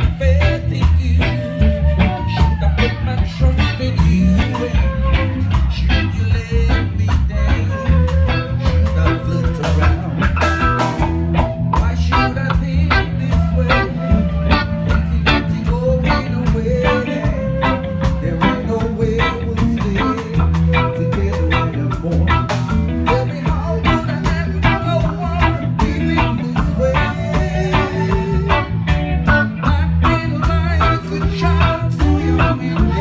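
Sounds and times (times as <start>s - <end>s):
drum kit beat: 0.0s - 33.0s
electric guitar: 0.0s - 33.0s
flute melody: 0.0s - 33.0s.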